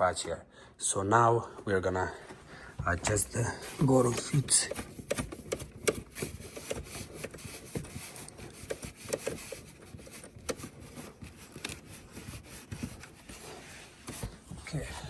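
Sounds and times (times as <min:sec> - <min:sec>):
scraping and rubbing: 0:02.8 - 0:15.0.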